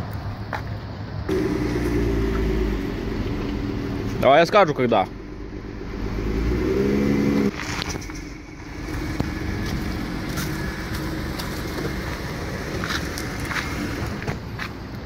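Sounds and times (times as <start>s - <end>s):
van engine revving and idling: 1.3s - 14.9s.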